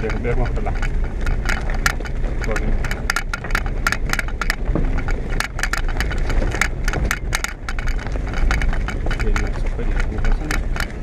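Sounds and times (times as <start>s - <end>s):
clicks and rattles in car: 0.0s - 11.0s
engine and road rumble: 0.0s - 11.0s.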